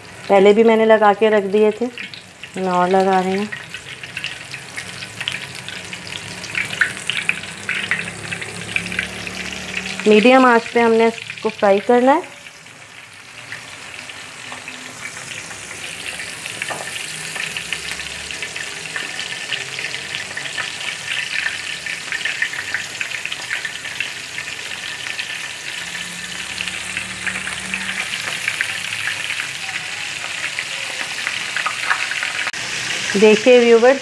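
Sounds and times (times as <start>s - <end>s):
food deep-frying in oil: 0.0s - 34.0s.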